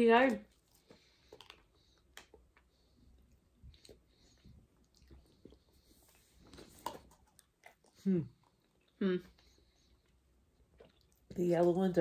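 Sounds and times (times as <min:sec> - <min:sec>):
faint chewing: 0:00.3 - 0:11.8.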